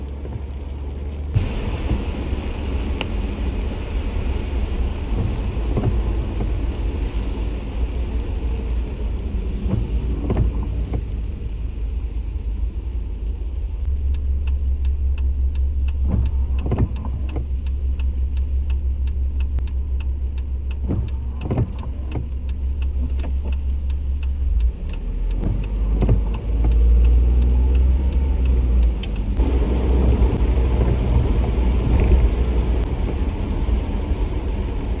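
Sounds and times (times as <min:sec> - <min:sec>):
car rumbling: 0:00.0 - 0:35.0.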